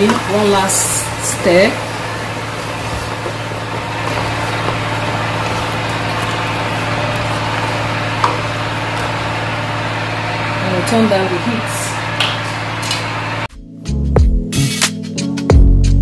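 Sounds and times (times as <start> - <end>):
low mechanical hum: 0.0 - 13.5.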